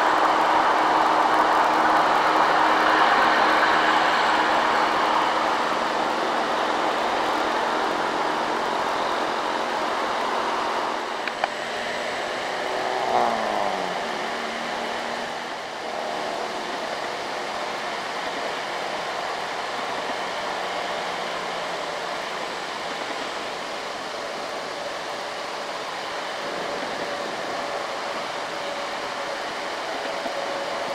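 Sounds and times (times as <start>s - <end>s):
diesel truck engines labouring: 0.0s - 30.9s
traffic noise: 0.0s - 30.9s.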